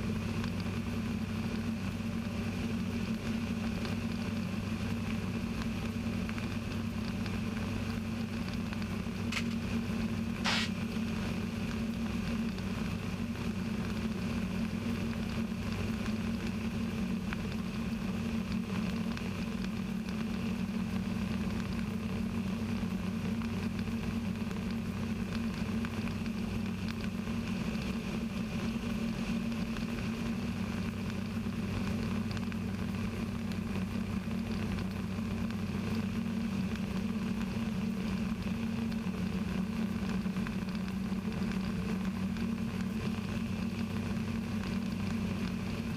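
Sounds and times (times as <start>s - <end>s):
light aircraft engine drone: 0.0s - 45.9s.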